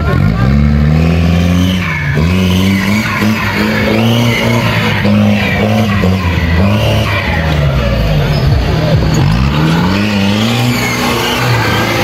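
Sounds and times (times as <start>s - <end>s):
jeep engine revving: 0.0s - 12.0s
tyres skidding on loose dirt: 0.0s - 12.0s.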